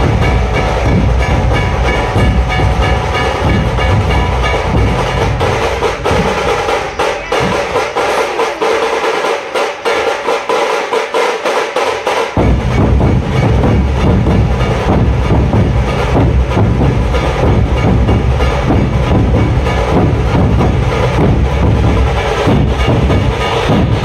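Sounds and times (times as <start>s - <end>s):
deep bass drum strokes: 0.0s - 9.3s, 12.4s - 24.0s
barrel drums played with sticks: 0.0s - 24.0s.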